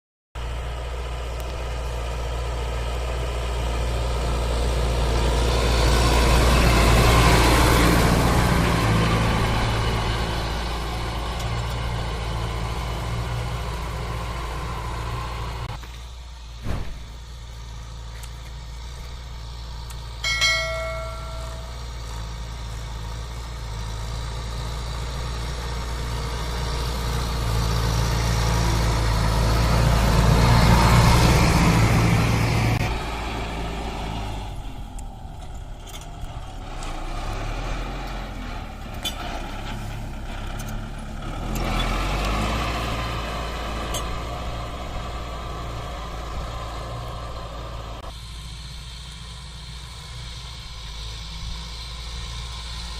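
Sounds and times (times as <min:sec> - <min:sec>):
tractor diesel engine running: 0:00.4 - 0:52.9.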